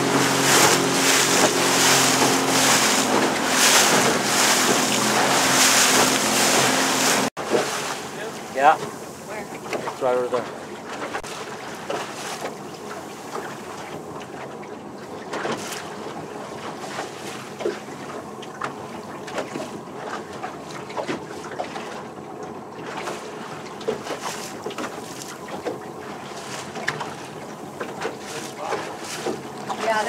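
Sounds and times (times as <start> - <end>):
water rushing: 0.0 - 22.1, 22.7 - 30.0
motorboat motor: 0.0 - 30.0.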